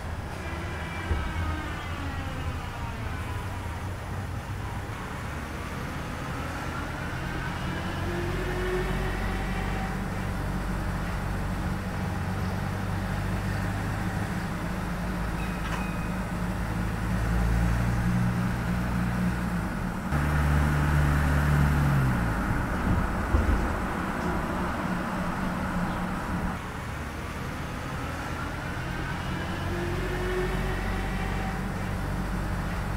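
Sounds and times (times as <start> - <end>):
electric truck hum: 0.0 - 32.9
tyre and road noise: 0.0 - 32.9.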